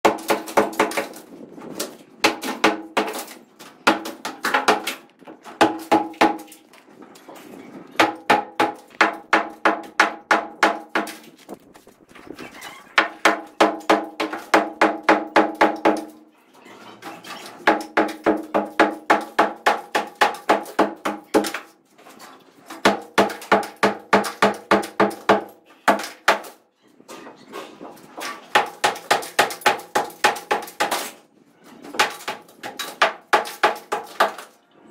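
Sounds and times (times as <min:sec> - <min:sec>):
sledgehammer pounding brick wall: 0:00.0 - 0:16.2, 0:17.0 - 0:26.6, 0:27.2 - 0:31.2, 0:31.8 - 0:34.6.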